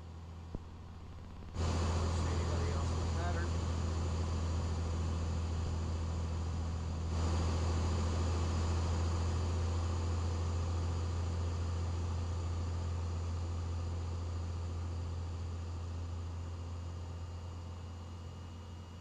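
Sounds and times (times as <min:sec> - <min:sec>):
plane engine and propeller droning: 0:00.0 - 0:19.0.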